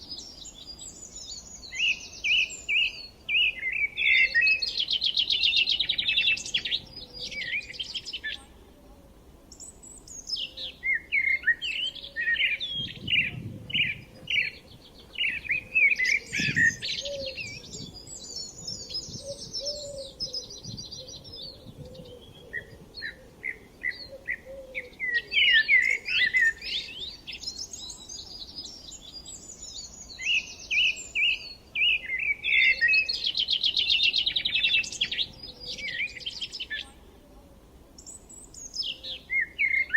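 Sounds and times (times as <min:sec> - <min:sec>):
songbirds chirping and singing: 0:00.0 - 0:08.7, 0:09.5 - 0:37.4, 0:38.0 - 0:39.9.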